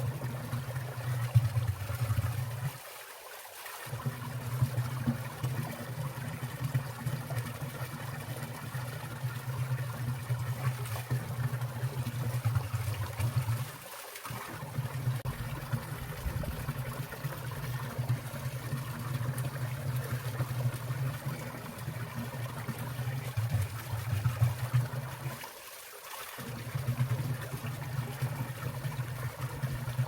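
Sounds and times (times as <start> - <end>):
stream trickling: 0.0 - 30.0.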